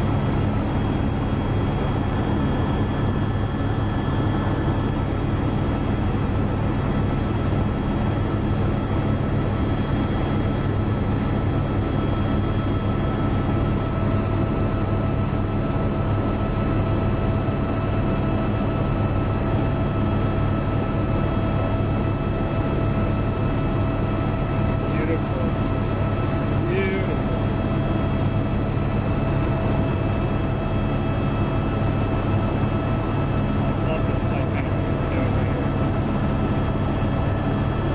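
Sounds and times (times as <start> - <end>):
aircraft engine drone: 0.0 - 37.9.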